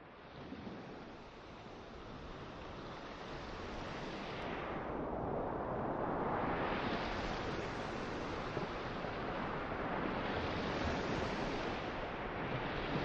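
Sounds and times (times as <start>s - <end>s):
waves washing up a beach: 0.1s - 13.0s.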